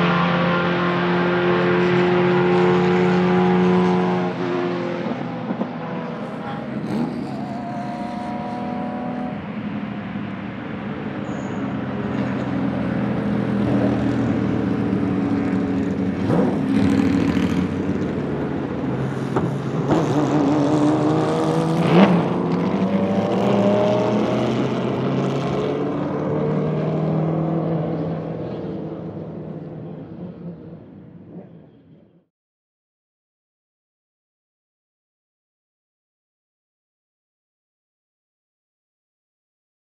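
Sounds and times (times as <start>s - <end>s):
race car driving past: 0.0s - 32.0s.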